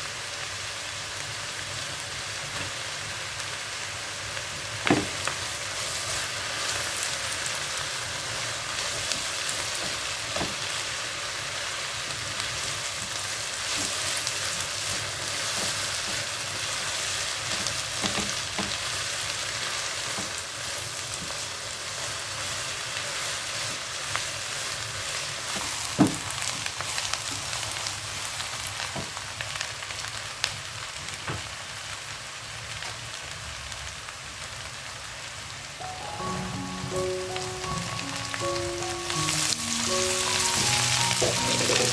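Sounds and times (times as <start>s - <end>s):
oil sizzling in a wok: 0.0s - 41.9s.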